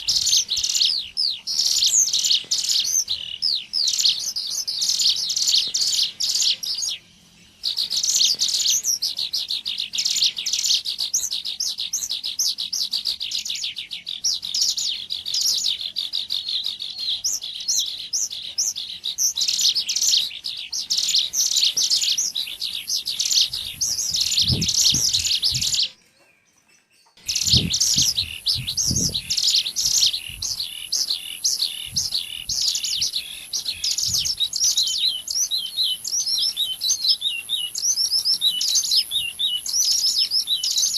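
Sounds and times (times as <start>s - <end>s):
bird high chirping calls: 0.0s - 40.9s.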